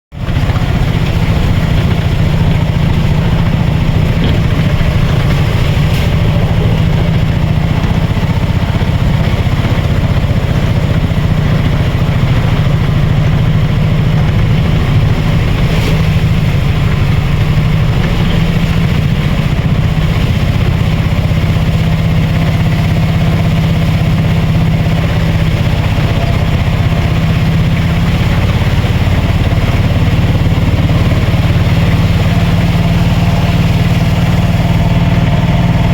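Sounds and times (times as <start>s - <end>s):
vehicle engine running: 0.1s - 35.9s.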